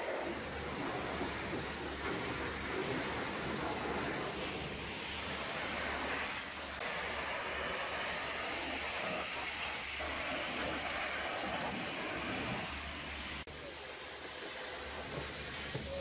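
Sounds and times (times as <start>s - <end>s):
pressure washer spray hissing: 0.0s - 16.0s.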